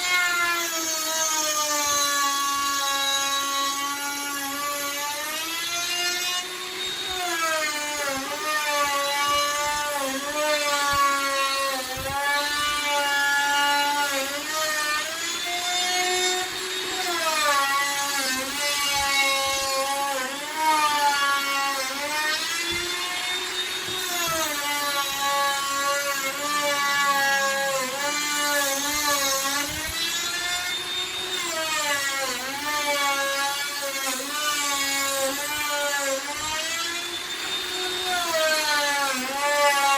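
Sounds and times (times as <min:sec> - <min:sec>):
electric router carving wood: 0:00.0 - 0:39.9.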